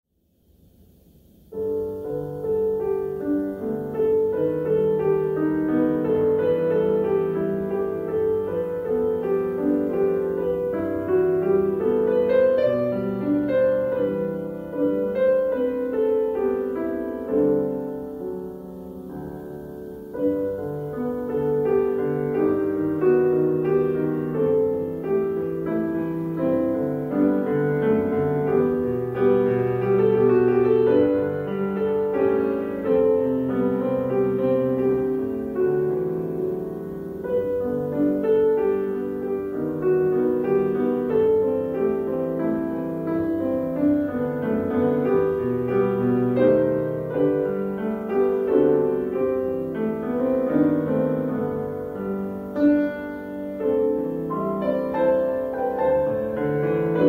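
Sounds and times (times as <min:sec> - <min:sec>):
grand piano playing: 0:01.4 - 0:57.0.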